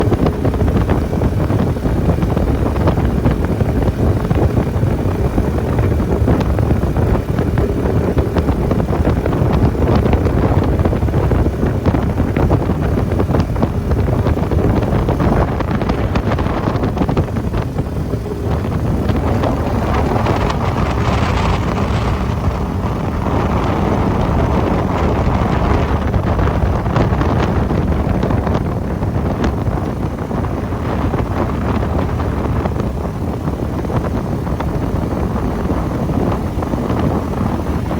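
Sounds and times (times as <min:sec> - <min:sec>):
boat motor running: 0:00.0 - 0:37.9
wind buffeting microphone: 0:00.0 - 0:37.9.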